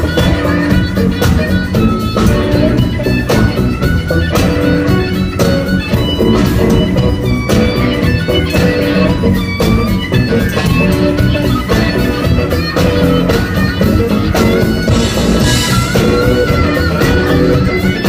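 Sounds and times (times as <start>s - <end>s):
guitar: 0.0s - 18.0s
steady drum beat: 0.0s - 18.0s.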